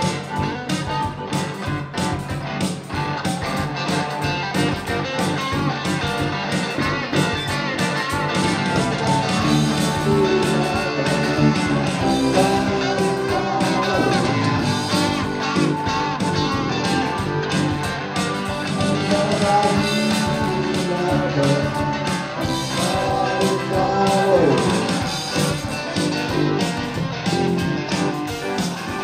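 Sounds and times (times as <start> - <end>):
electric guitar lead lines: 0.0 - 29.0
rock band playing live: 0.0 - 29.0.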